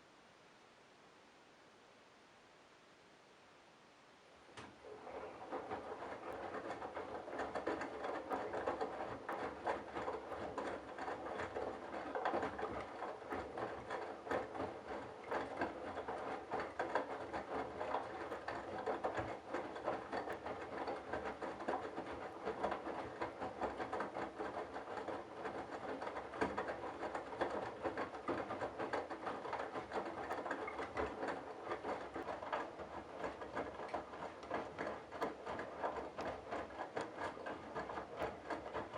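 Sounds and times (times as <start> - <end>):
wet laundry patter and clicking: 4.6 - 38.9
washing machine drum motor running: 4.8 - 38.9.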